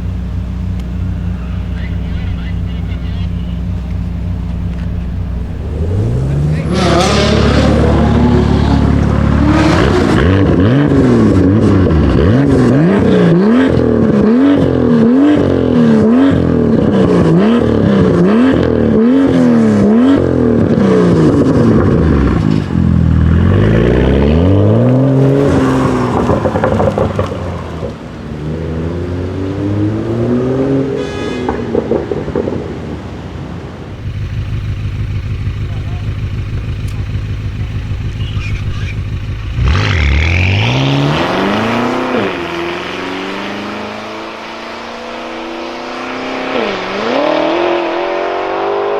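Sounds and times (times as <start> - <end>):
car engine revving: 0.0 - 33.1, 33.8 - 48.9.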